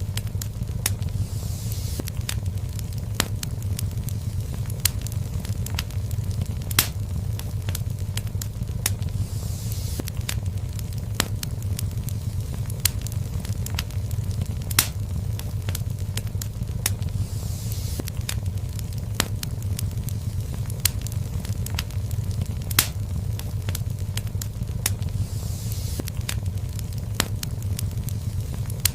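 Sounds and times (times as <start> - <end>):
fire crackles and pops: 0.0 - 28.9
fire rumbling in fireplace: 0.0 - 28.9.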